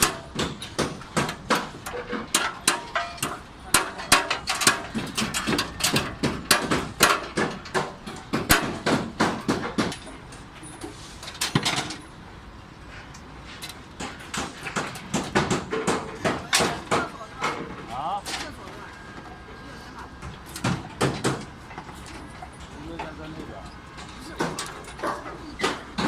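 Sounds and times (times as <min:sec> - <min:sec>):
hammers striking metal formwork: 0:00.0 - 0:12.1, 0:13.5 - 0:19.3, 0:20.1 - 0:26.0.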